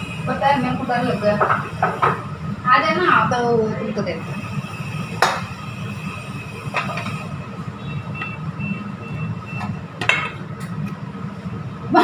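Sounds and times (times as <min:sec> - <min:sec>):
thin high whine: 0:00.0 - 0:10.3.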